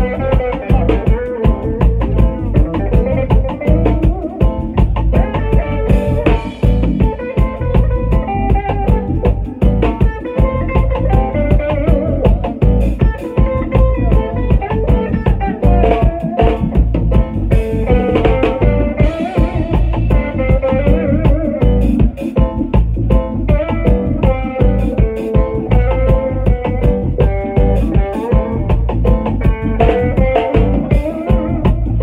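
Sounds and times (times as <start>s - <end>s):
electric guitar: 0.0s - 32.0s
live band playing: 0.0s - 32.0s.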